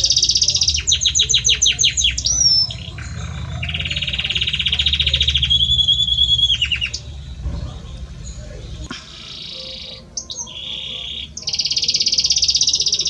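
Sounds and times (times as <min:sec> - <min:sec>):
low steady hum: 0:00.0 - 0:12.4
canary singing: 0:00.0 - 0:13.0.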